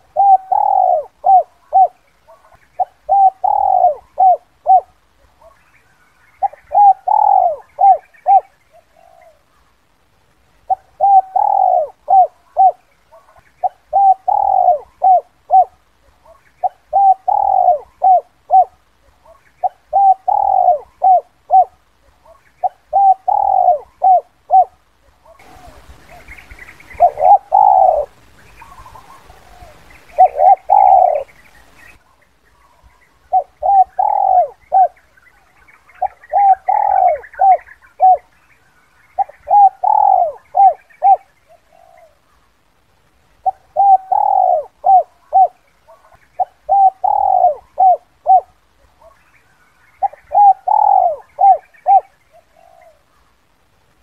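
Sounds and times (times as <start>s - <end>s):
dove cooing: 0.0s - 9.7s, 10.6s - 38.4s, 39.0s - 42.5s, 43.4s - 53.3s
light hiss: 0.0s - 54.0s.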